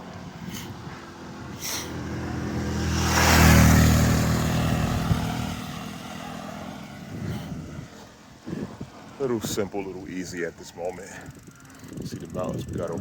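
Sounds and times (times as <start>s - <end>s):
vehicle passing by: 0.0s - 11.2s.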